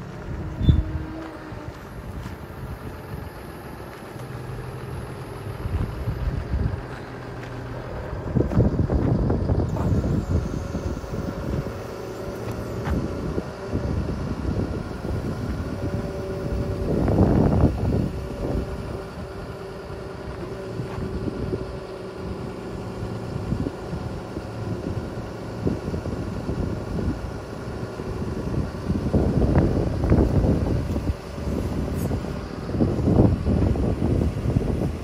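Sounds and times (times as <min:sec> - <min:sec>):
diesel engine running: 0:00.0 - 0:35.0
hydraulic hum: 0:00.0 - 0:35.0
wind buffeting microphone: 0:00.0 - 0:35.0.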